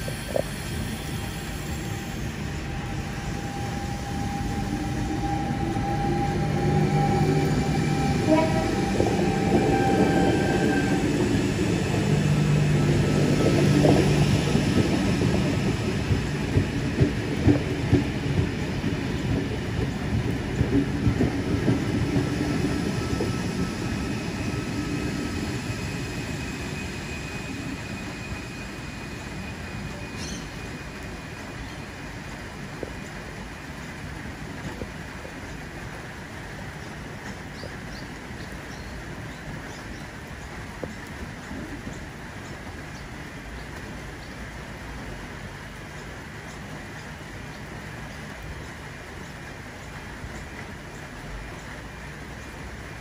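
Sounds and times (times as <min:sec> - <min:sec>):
electric train passing: 0:00.0 - 0:53.0.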